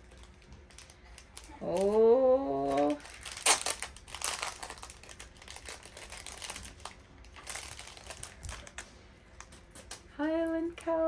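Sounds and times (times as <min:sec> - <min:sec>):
packaging crinkling and crackling: 0:00.0 - 0:10.1.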